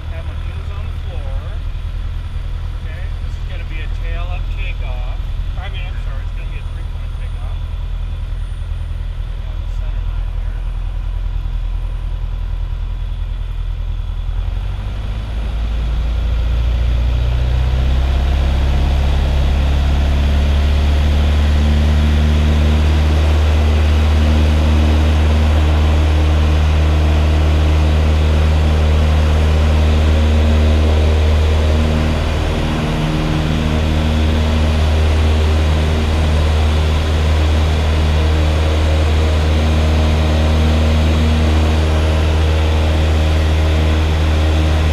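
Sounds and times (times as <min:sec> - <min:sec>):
light aircraft engine and propeller: 0:00.0 - 0:44.9.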